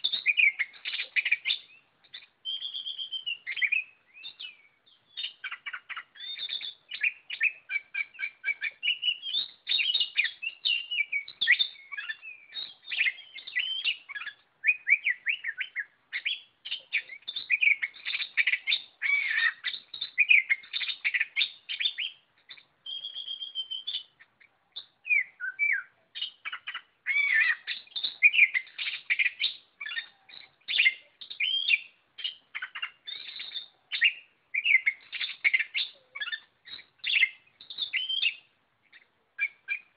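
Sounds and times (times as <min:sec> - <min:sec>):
bird singing whistled phrases: 0:00.0 - 0:24.2, 0:24.8 - 0:39.9.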